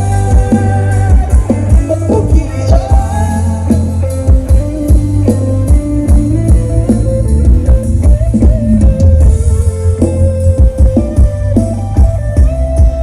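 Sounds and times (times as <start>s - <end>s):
drum kit: 0.0s - 13.0s
guitar melody: 0.0s - 13.0s
heavy bass: 0.0s - 13.0s.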